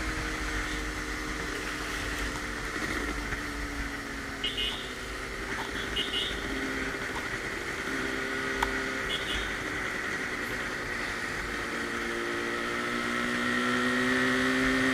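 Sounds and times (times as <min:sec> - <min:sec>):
two-stroke motorcycle engine: 0:00.0 - 0:14.9.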